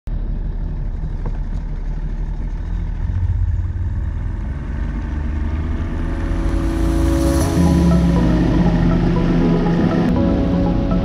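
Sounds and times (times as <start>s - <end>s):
outboard motor running: 0.1s - 11.0s.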